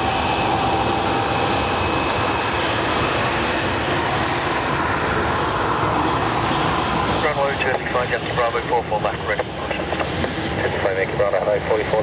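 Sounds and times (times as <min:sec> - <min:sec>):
jet engines rushing on runway: 0:00.0 - 0:12.0.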